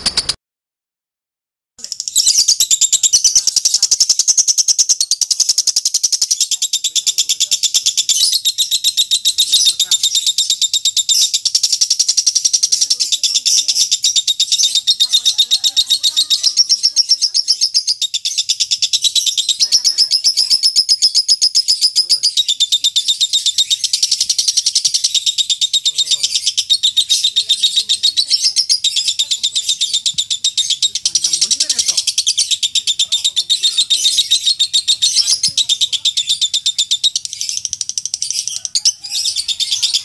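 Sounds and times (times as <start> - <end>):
lovebird shrill chatter: 1.8 - 40.0.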